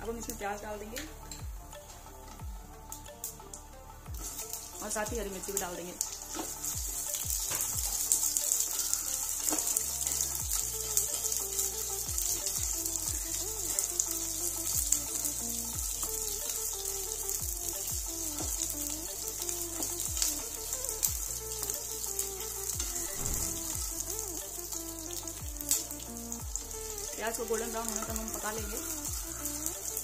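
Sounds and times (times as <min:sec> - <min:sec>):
vegetables sizzling in hot oil: 0:00.0 - 0:30.0.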